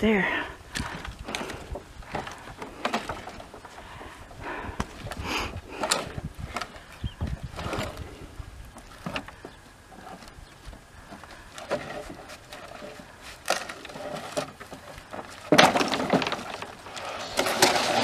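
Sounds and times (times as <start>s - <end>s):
wooden boards clattering: 0.8s - 18.0s.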